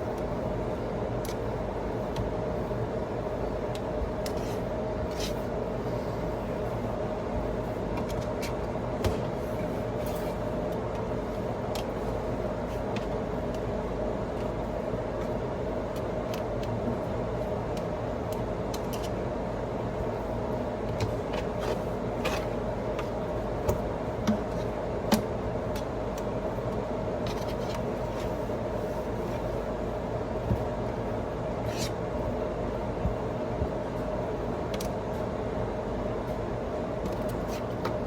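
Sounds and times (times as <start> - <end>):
mechanical rumble with hum: 0.0 - 38.0.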